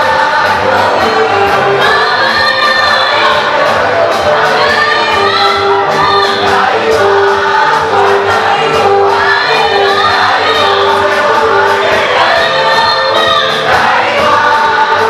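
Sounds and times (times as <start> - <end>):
choir singing in harmony: 0.0 - 15.0
steady beat: 0.0 - 15.0.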